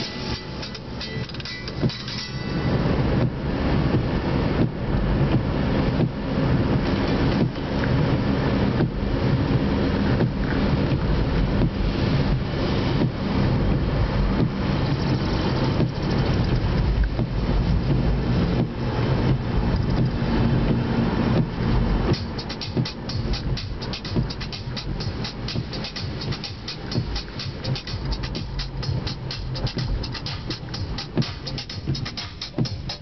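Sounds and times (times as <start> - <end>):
car engine drone: 0.0 - 33.0
windscreen wipers knocking: 0.0 - 33.0.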